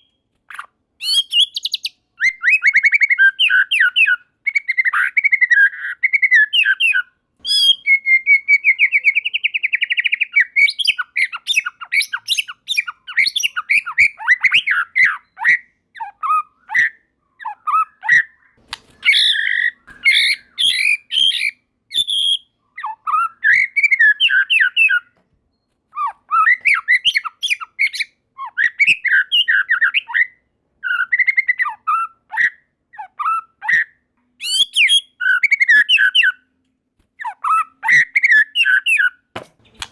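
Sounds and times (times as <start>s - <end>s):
bird singing whistled phrases: 0.0s - 25.1s, 26.3s - 32.6s, 34.4s - 36.4s.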